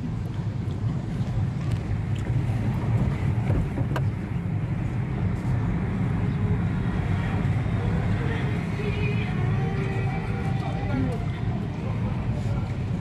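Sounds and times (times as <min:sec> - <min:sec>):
road rumble: 0:00.0 - 0:13.0
wind noise: 0:00.0 - 0:13.0.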